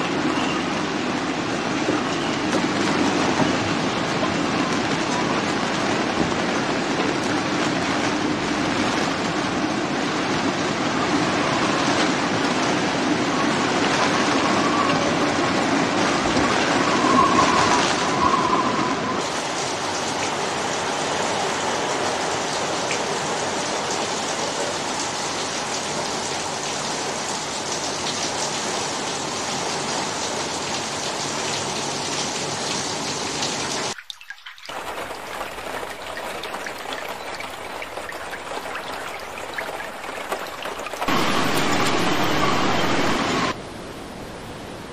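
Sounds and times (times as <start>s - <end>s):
heavy rain: 0.0s - 34.0s, 34.6s - 44.9s
floodwater rushing: 0.0s - 44.0s.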